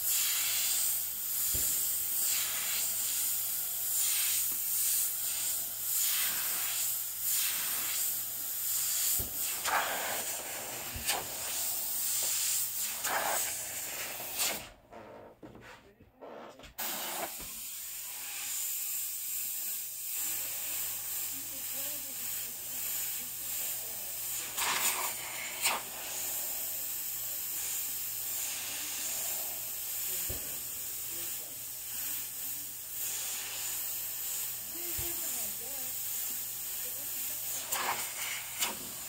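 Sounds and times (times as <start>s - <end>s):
airbrush hissing: 0.0s - 14.8s, 16.8s - 39.0s.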